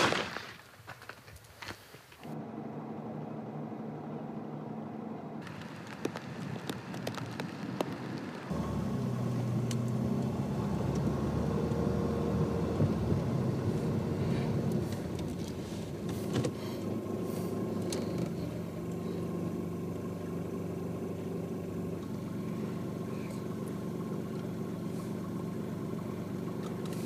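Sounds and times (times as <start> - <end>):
car engine running: 2.3 - 27.0.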